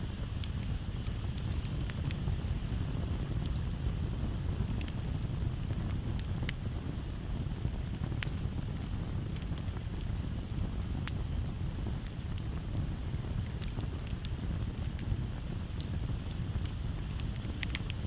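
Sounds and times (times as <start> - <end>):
campfire crackling and popping: 0.0 - 18.0
cricket trill: 0.0 - 18.0.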